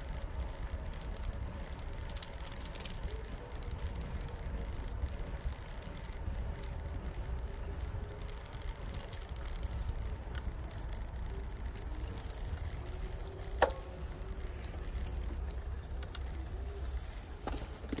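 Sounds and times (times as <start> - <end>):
bicycle clicks and rattles: 0.0 - 18.0
bicycle rolling on concrete: 0.0 - 18.0.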